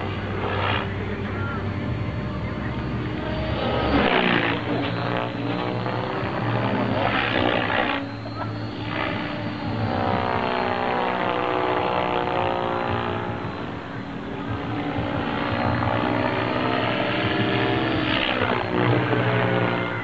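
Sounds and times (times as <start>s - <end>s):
rc helicopter rotor buzz: 0.0s - 20.0s.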